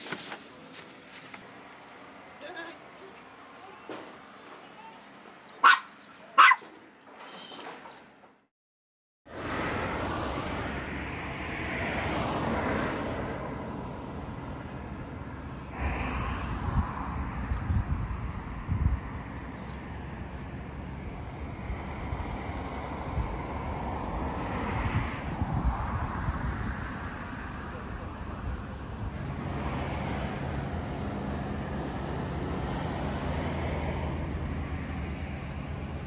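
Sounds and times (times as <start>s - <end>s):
road traffic rush: 0.0s - 8.5s, 9.3s - 36.0s.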